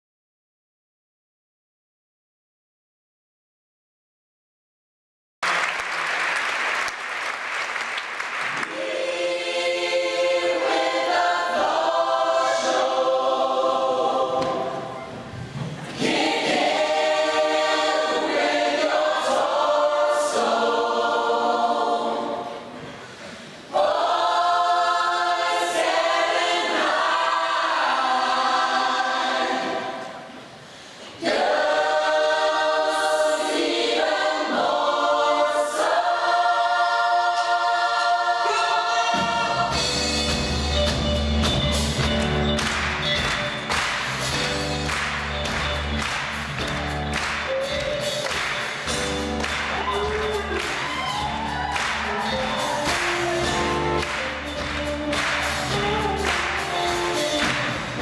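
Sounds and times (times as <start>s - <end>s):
mixed choir singing: 8.4s - 40.9s, 41.7s - 58.0s.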